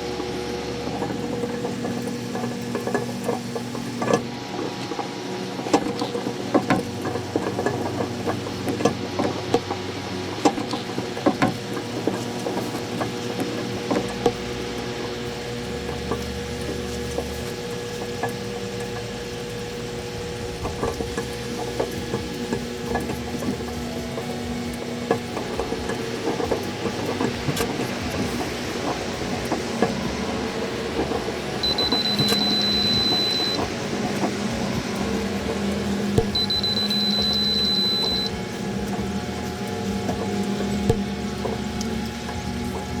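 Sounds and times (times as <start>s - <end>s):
microwave oven humming: 0.0s - 43.0s
small clicks and crackles: 0.8s - 43.0s.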